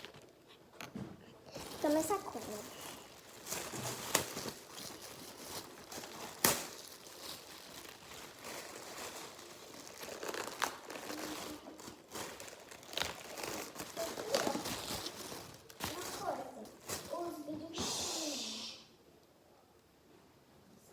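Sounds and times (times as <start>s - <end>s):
paper crinkling and rustling: 0.0s - 0.9s, 1.5s - 17.5s.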